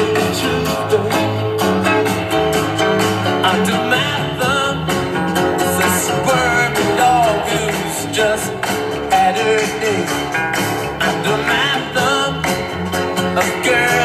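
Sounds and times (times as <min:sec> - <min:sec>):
person singing: 0:00.0 - 0:02.1, 0:03.4 - 0:14.0
plucked guitar: 0:00.0 - 0:14.0.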